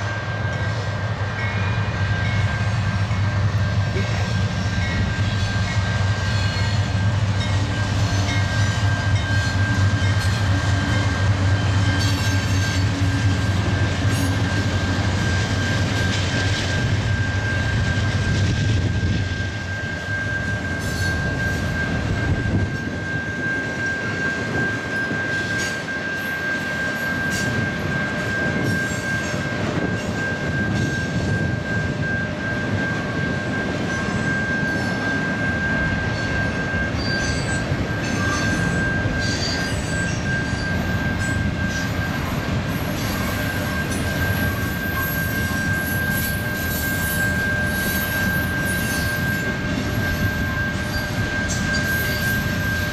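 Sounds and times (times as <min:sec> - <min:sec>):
freight train cars rumbling: 0:00.0 - 0:52.9
steady high-pitched tone: 0:00.0 - 0:52.9.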